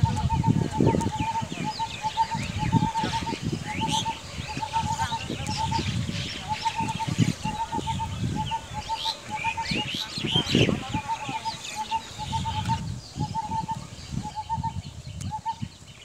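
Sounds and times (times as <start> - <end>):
high bird chirps and twitters: 0.0 - 16.0.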